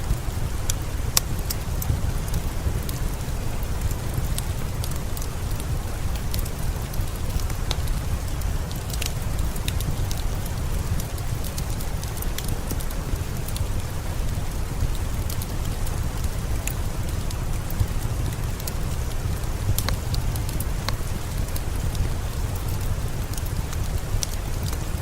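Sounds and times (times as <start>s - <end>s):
steady rain: 0.0s - 25.0s
wood fire crackling: 0.0s - 25.0s.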